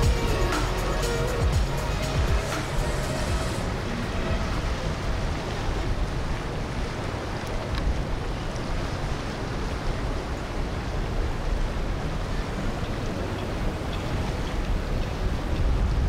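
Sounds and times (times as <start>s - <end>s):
boat engine rumble: 0.0s - 16.0s
water wash: 0.0s - 16.0s
wind on microphone: 0.0s - 16.0s.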